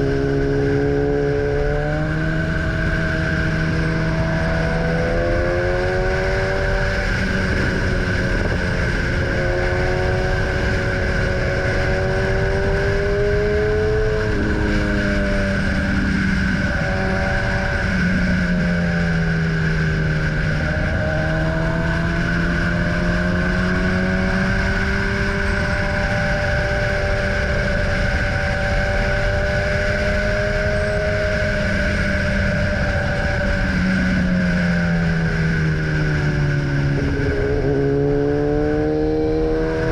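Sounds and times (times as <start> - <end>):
motorcycle engine shifting gears: 0.0 - 39.9
steady rush of noise: 0.0 - 39.9.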